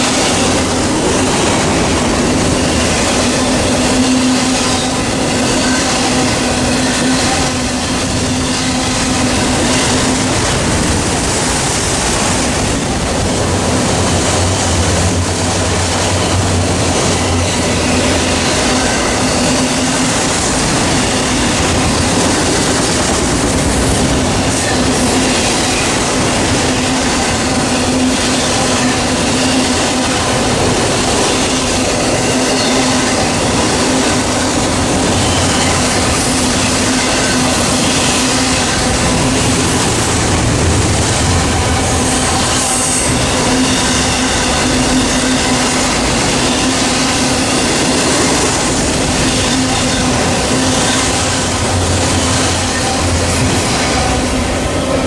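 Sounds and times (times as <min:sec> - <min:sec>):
freight train railcars rolling: 0:00.0 - 0:55.0.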